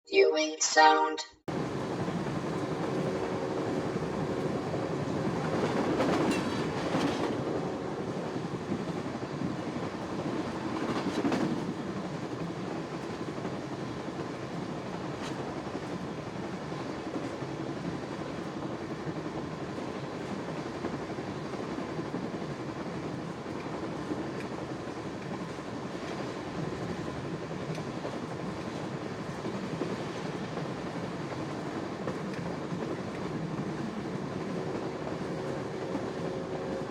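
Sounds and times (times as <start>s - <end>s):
train wheels rumbling on rails: 1.5s - 36.9s.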